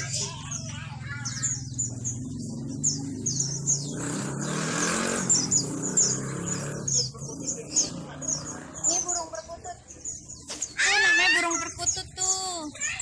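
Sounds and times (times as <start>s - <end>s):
vehicle engine hum: 0.0s - 10.5s
vehicle passing: 0.0s - 10.5s
small birds chirping: 0.0s - 13.0s.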